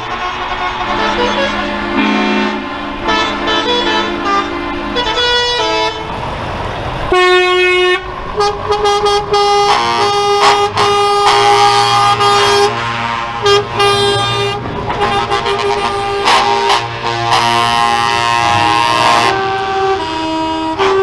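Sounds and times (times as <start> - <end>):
truck air horns blasting: 0.0 - 21.0.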